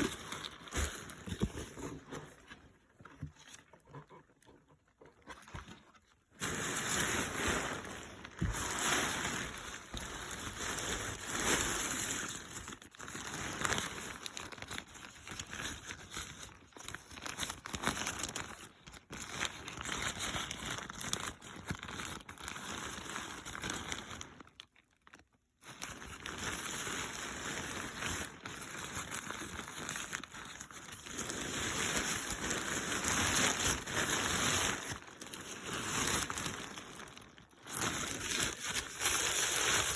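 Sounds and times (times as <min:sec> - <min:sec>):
packaging crinkling and rustling: 0:00.0 - 0:39.9.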